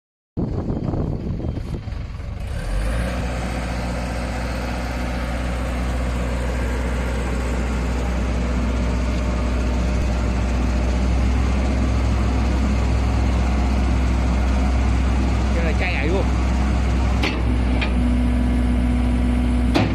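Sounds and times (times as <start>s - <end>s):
loader engine droning: 0.4s - 19.9s.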